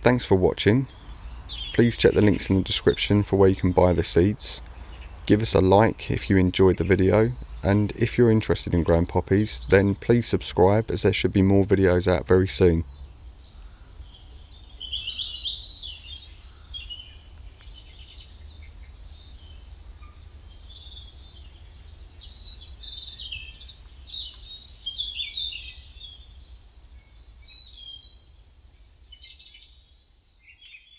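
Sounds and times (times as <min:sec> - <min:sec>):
songbirds singing and chirping: 0:00.0 - 0:30.9.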